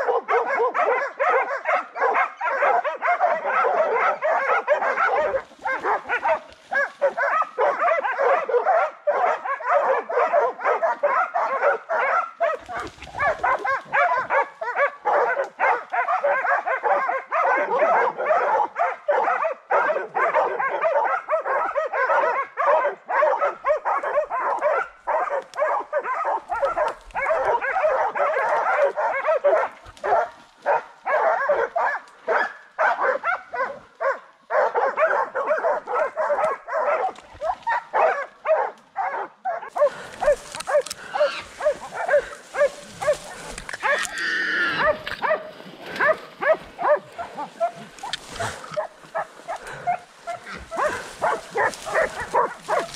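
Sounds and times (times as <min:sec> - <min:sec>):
dogs barking and yelping: 0:00.0 - 0:52.9.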